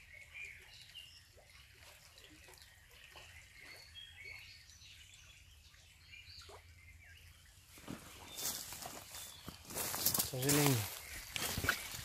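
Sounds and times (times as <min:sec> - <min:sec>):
small birds chirping: 0:00.0 - 0:12.0
water trickling: 0:00.0 - 0:12.0.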